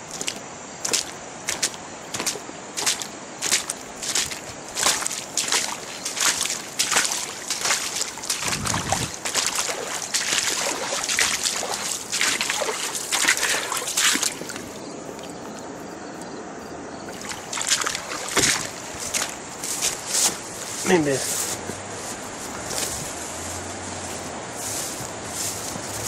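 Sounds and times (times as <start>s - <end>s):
footsteps splashing through water: 0.0s - 15.8s, 17.1s - 26.0s.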